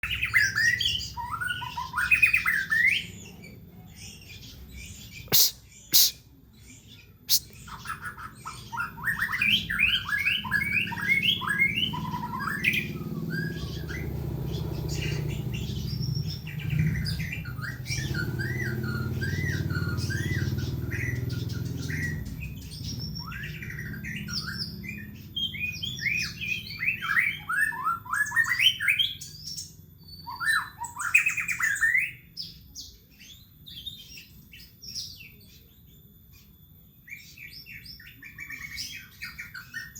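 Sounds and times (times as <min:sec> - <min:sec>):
songbird whistling and trilling: 0:00.0 - 0:39.9.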